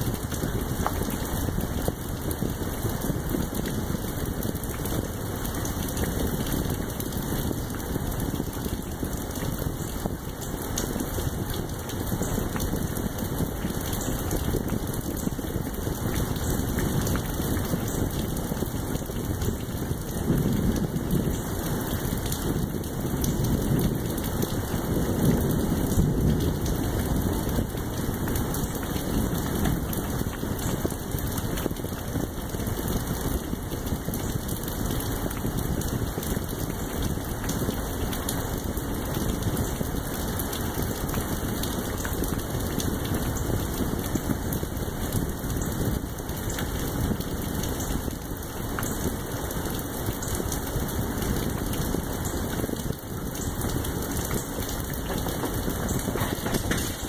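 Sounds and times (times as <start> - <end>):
raindrop ticks: 0.0 - 57.0
steady rain falling: 0.0 - 57.0.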